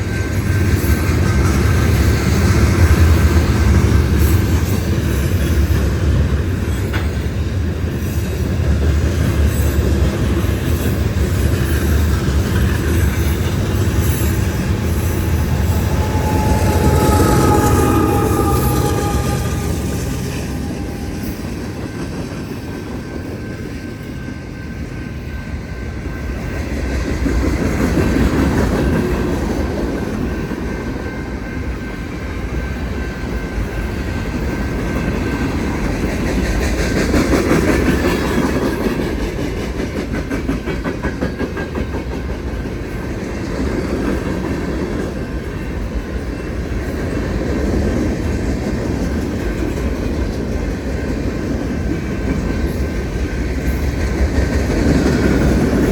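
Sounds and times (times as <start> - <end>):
freight train wheels clacking: 0.0 - 55.9.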